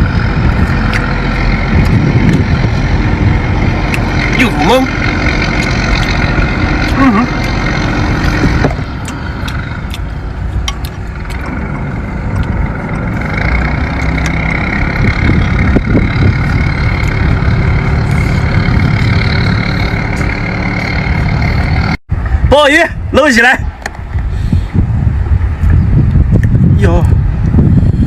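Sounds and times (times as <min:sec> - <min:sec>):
boat engine running: 0:00.0 - 0:22.5.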